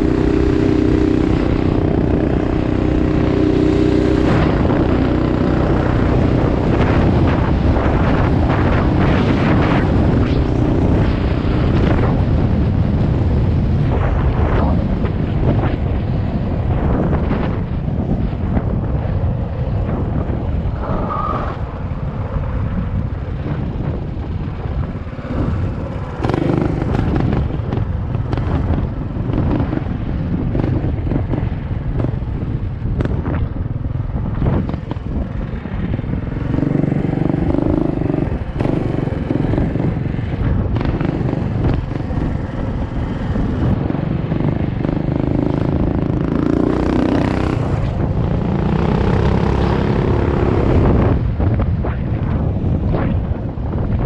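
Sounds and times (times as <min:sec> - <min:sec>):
small motorcycle engines running: 0:00.0 - 0:20.9, 0:21.5 - 0:54.0
wind rumble on microphone: 0:00.0 - 0:54.0.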